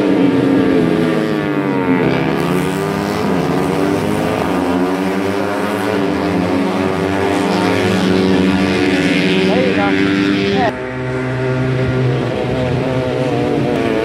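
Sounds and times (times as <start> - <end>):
motorcycle engines racing: 0.0 - 14.0.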